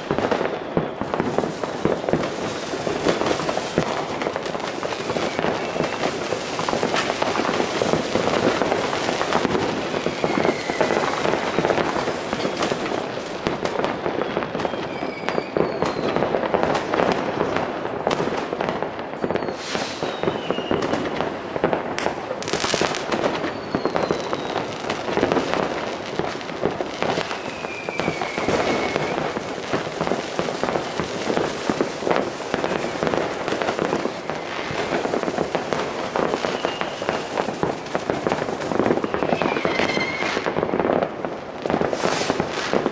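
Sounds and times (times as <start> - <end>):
fireworks crackling and banging: 0.0 - 42.9
whistling fireworks: 0.0 - 42.9.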